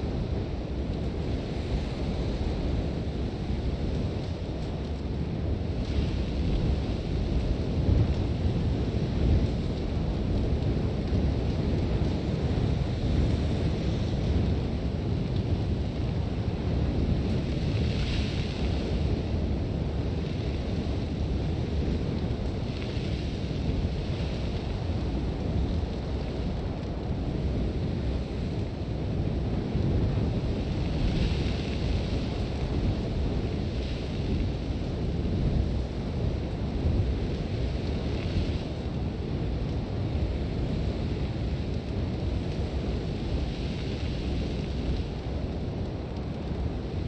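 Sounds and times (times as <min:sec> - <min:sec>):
wind with low rumble: 0:00.0 - 0:47.0.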